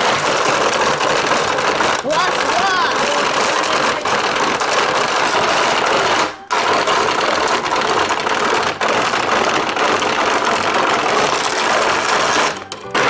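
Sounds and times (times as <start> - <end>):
toy crank mechanism rattling: 0.0 - 13.0.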